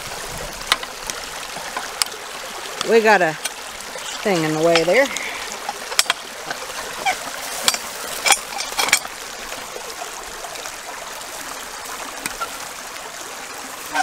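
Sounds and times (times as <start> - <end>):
creek trickling: 0.0 - 14.0.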